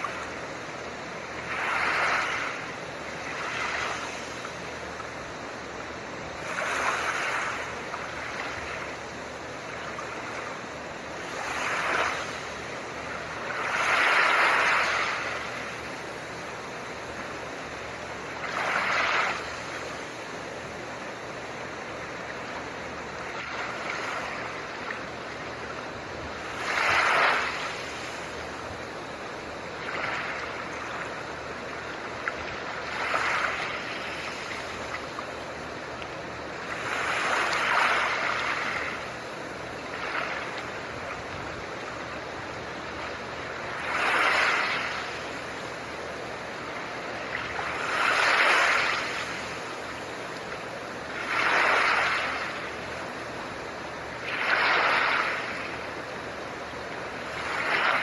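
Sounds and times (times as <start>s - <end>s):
ocean waves washing in: 0.0s - 58.0s
steady noise hiss: 0.0s - 58.0s.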